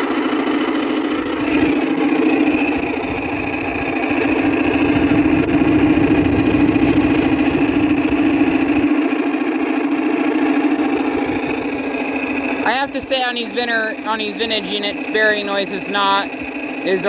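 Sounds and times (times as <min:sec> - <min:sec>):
air conditioner droning: 0:00.0 - 0:17.0
fan motor whine: 0:00.0 - 0:17.0.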